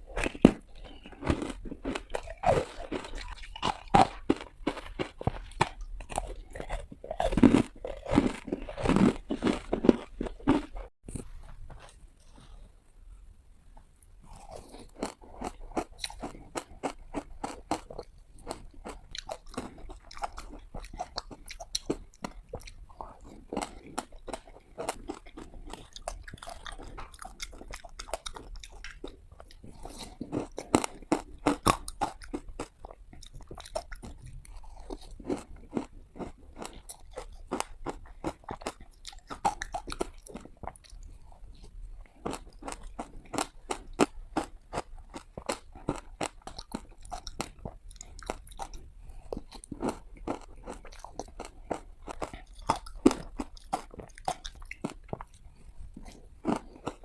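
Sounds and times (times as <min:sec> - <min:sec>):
teeth crunching hard ice: 0:00.0 - 0:10.9, 0:14.3 - 0:41.4, 0:42.0 - 0:57.0.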